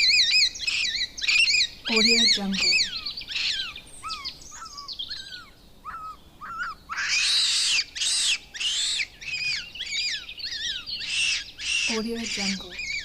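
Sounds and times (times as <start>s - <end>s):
harsh animal screeching calls: 0.0s - 13.0s
whistled animal chirps: 0.0s - 13.0s.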